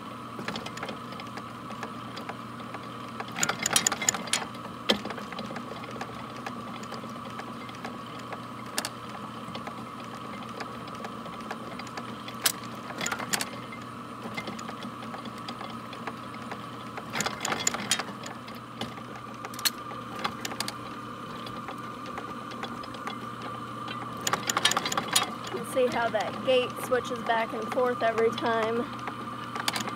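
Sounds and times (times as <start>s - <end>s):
reaper mechanical hum: 0.0s - 29.9s
metallic clanks and clicks: 0.5s - 29.9s.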